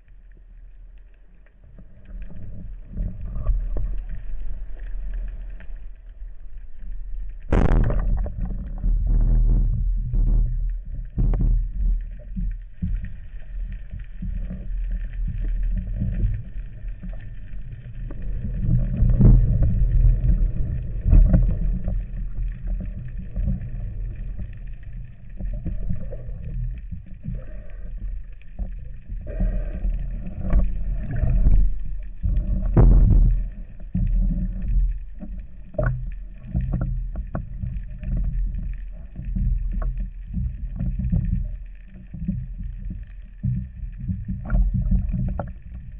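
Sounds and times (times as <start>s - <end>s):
muffled underwater rumble: 0.0s - 45.9s.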